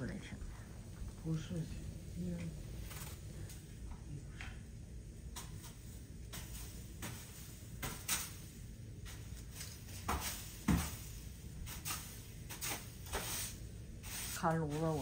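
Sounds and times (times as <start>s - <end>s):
broom sweeping floor: 1.1s - 15.0s.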